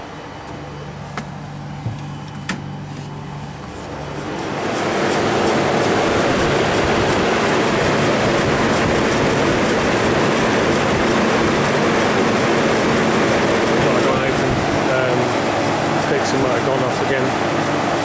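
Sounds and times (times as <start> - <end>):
refrigeration compressor running: 0.0 - 18.0.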